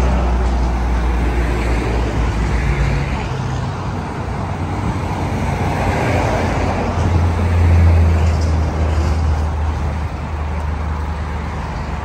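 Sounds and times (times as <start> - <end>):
road traffic noise: 0.0 - 12.0
vehicle engine drone: 0.0 - 12.0.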